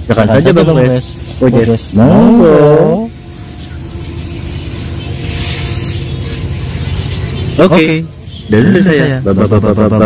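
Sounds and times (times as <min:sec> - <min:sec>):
music with low hum: 0:00.0 - 0:10.0.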